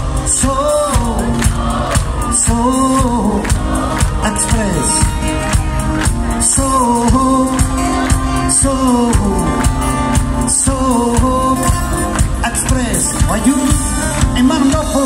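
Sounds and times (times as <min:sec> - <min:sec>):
drumbeat: 0:00.0 - 0:15.0
live band playing: 0:00.0 - 0:15.0.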